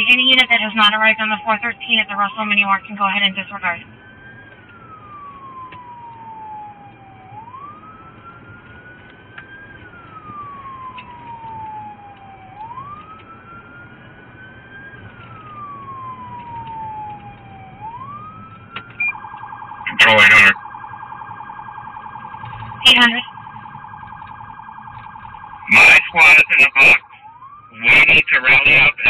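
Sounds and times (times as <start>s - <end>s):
police siren wailing: 0.0s - 29.0s.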